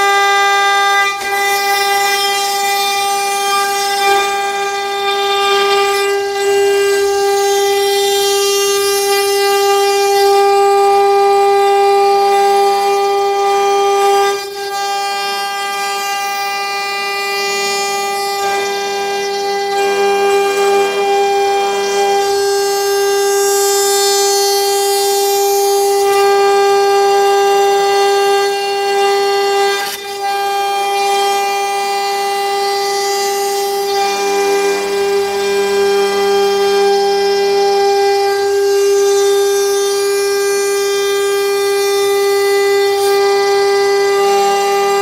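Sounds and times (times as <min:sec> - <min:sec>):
cnc router spindle whining: 0:00.0 - 0:45.0.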